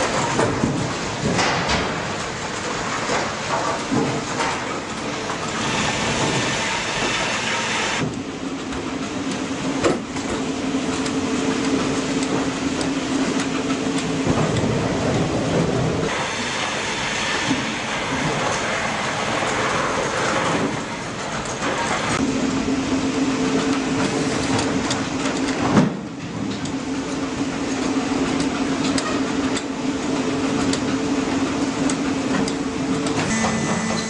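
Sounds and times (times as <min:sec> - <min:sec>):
machinery rumble and clatter: 0:00.0 - 0:34.0.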